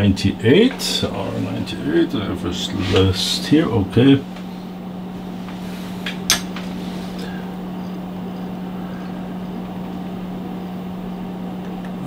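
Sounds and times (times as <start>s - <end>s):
equipment hum with fan hiss: 0.0s - 12.0s.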